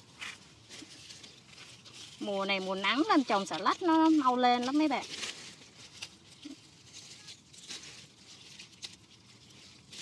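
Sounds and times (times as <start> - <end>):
lettuce leaves rustling: 0.0 - 10.0
lettuce leaves snapping: 0.0 - 10.0.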